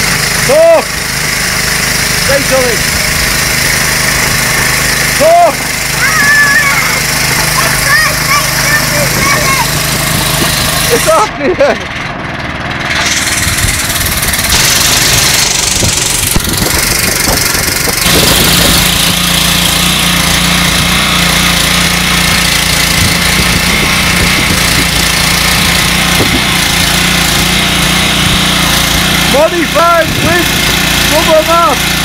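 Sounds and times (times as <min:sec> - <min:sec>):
water jet hissing: 0:00.0 - 0:11.3, 0:12.9 - 0:32.0
petrol engine running: 0:00.0 - 0:32.0.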